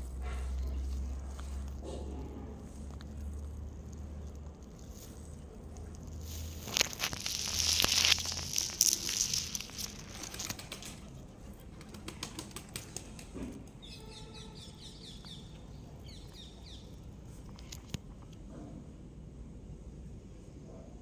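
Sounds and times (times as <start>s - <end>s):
tortoise chewing cucumber: 0.0s - 11.7s, 12.8s - 18.6s
small birds chirping: 0.0s - 18.0s.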